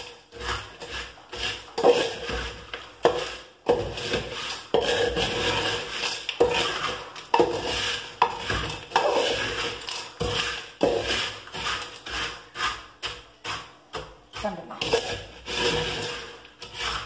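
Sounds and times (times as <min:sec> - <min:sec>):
metal spatula scraping pot: 0:00.0 - 0:17.0.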